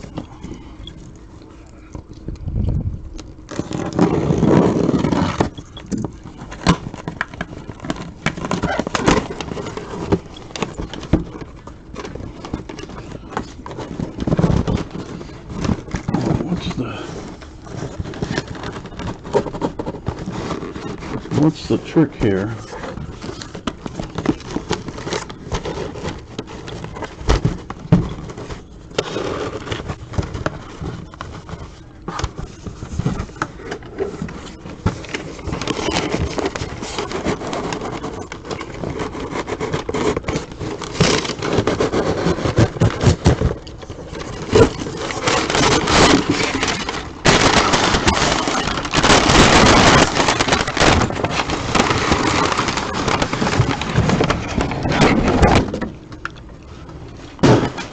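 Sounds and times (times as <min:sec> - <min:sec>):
plastic packaging crinkling: 0:00.0 - 0:57.9.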